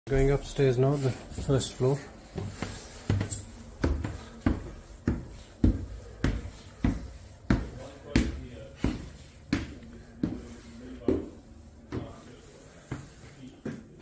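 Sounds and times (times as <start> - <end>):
footsteps climbing stairs: 0.1 - 14.0.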